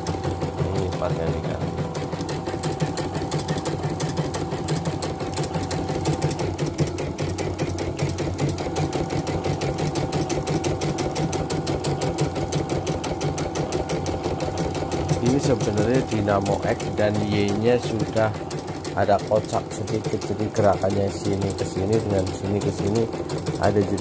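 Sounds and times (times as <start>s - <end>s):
embroidery machine stitching: 0.0s - 24.0s.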